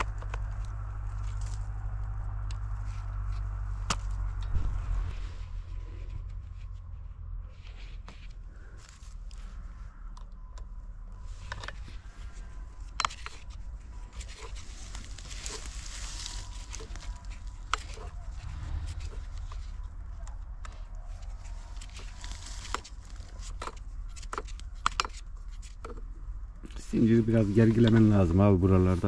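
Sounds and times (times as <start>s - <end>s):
rustling in dry pine needles: 0.0s - 29.0s.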